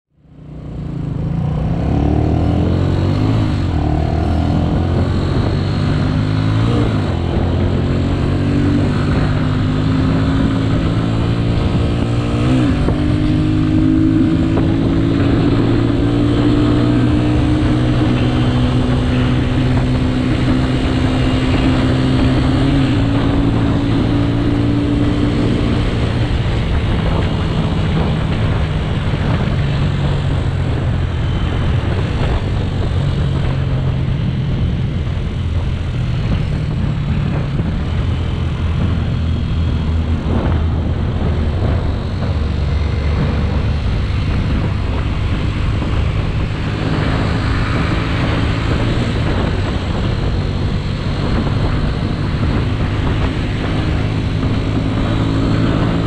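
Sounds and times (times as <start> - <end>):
motorcycle engine accelerating: 0.1 - 56.0.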